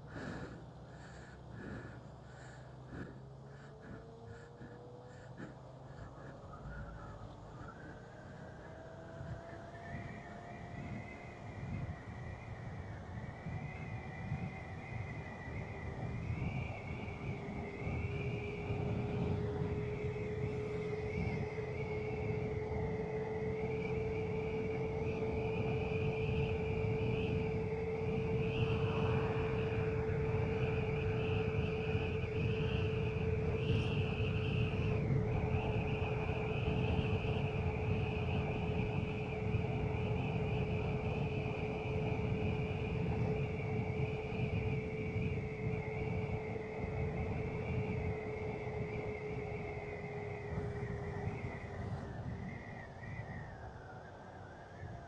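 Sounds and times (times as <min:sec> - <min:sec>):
droning hum: 0:00.0 - 0:55.0
steady whine: 0:00.0 - 0:55.0
wind and road rumble: 0:00.0 - 0:55.0.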